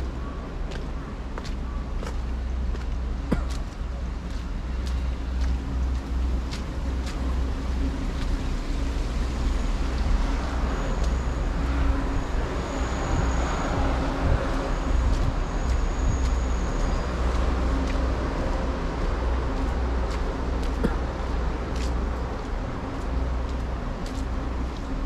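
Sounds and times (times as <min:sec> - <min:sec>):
footsteps on wet pavement: 0:00.0 - 0:25.0.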